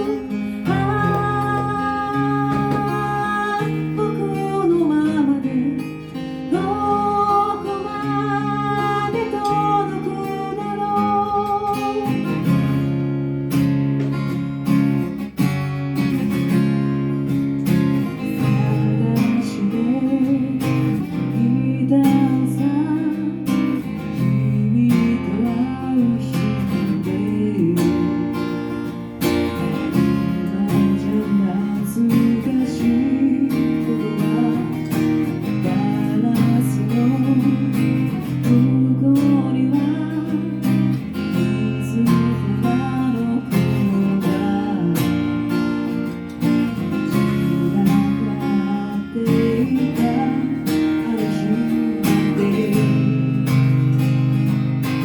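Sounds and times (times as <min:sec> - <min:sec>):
person singing: 0:00.0 - 0:12.7, 0:18.2 - 0:28.8, 0:30.0 - 0:45.8, 0:47.0 - 0:53.7
acoustic guitar strumming: 0:00.0 - 0:55.0.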